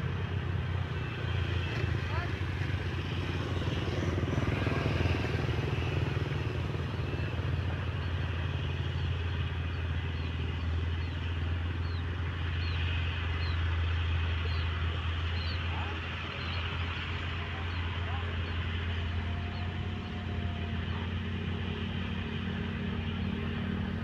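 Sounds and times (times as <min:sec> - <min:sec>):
heavy machinery diesel engine: 0:00.0 - 0:24.0.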